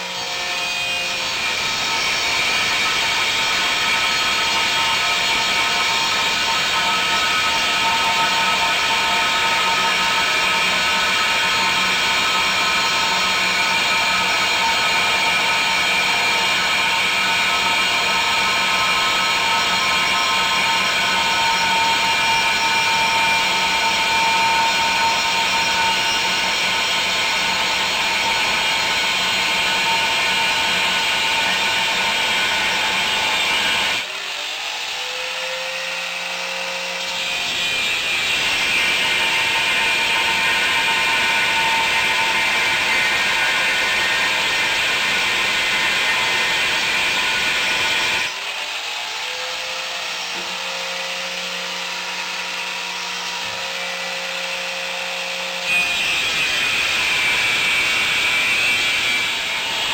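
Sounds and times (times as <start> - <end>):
angle grinder cutting steel: 0.0 - 59.9
angle grinder running free: 0.0 - 59.9.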